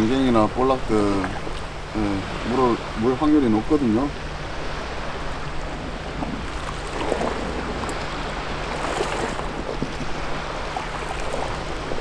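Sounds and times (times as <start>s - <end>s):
low steady hum: 0.0s - 12.0s
surf washing against rocks: 0.0s - 12.0s.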